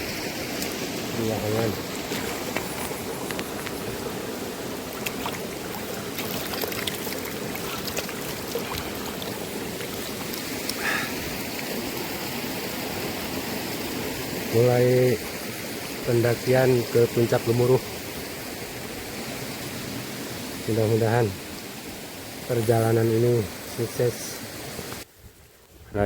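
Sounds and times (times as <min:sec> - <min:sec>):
mountain river flowing: 0:00.0 - 0:25.1.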